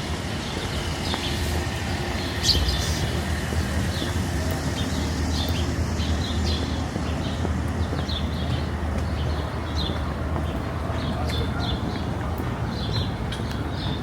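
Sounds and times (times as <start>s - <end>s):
low rumble of city traffic: 0.0s - 14.0s
songbirds chirping: 0.0s - 14.0s.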